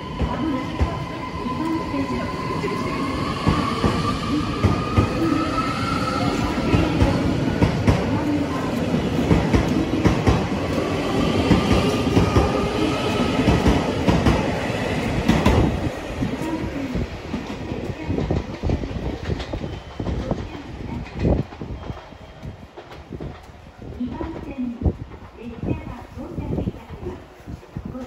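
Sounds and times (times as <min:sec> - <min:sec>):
electric train rumble: 0:00.0 - 0:26.9.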